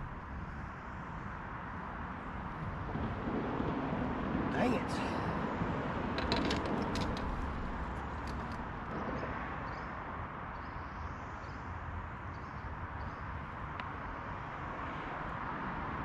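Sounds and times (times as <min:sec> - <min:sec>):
low rush of wind or water: 0:00.0 - 0:16.0.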